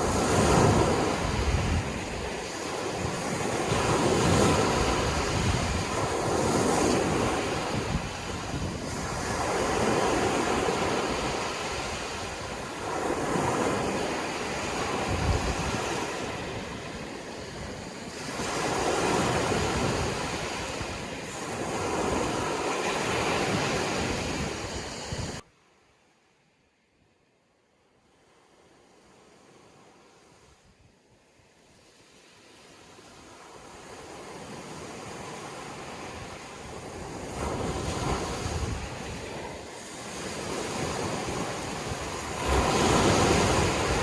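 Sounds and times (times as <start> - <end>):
sea waves washing onto shore: 0.0 - 25.4, 31.5 - 44.0.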